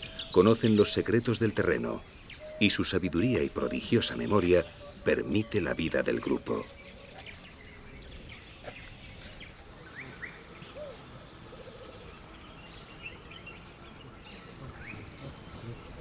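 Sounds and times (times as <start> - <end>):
bird trill: 0.0 - 15.6
bird chirps: 0.0 - 16.0.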